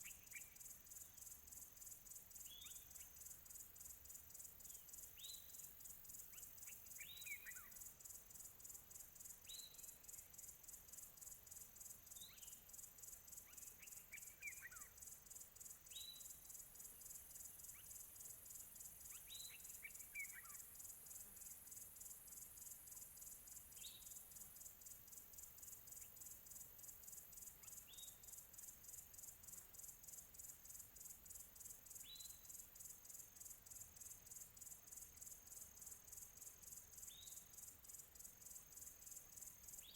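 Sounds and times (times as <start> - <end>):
faint crickets chirping: 0.0 - 39.9.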